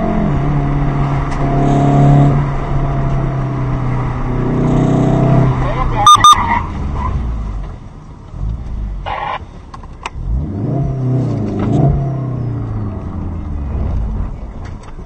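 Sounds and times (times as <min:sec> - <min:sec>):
car engine revving: 0:00.0 - 0:07.7, 0:10.2 - 0:14.6
road rumble: 0:00.0 - 0:15.0.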